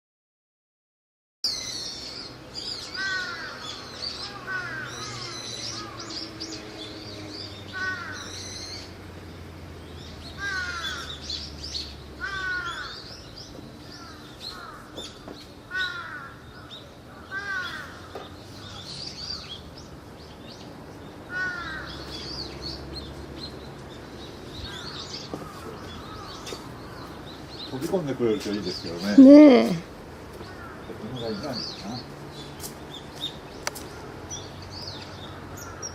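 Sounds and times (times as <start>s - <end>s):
harsh cawing bird calls: 1.5s - 9.0s, 9.8s - 29.2s, 30.3s - 35.9s
small birds chirping: 1.5s - 35.9s.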